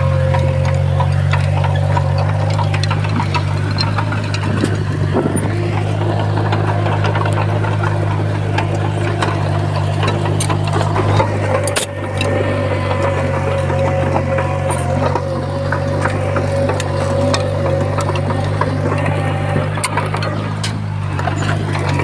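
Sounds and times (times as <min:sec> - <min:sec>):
bulldozer diesel engine running: 0:00.0 - 0:22.0
clicks and knocks: 0:00.0 - 0:22.0.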